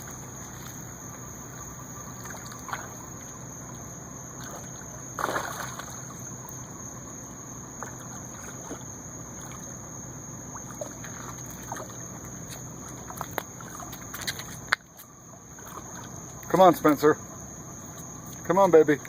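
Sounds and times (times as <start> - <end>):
faint low hum: 0.0 - 19.0
outdoor background hiss: 0.0 - 19.0.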